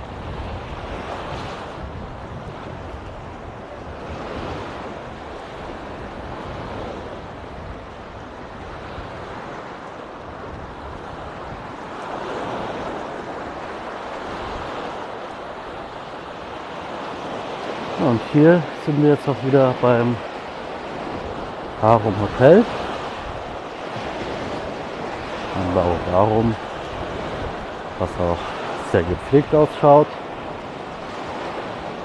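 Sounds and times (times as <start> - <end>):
wind rumble on microphone: 0.0 - 18.5, 19.4 - 32.0
waves washing onto beach: 0.0 - 32.0.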